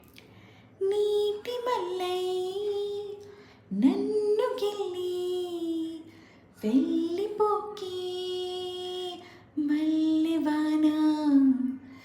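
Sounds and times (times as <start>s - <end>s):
woman singing: 0.8s - 12.0s.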